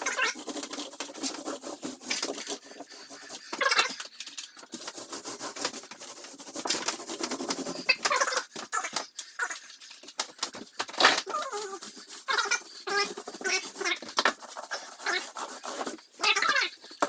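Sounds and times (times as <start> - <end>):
brush rubbing paint onto wood: 0.0 - 8.7, 9.8 - 17.0.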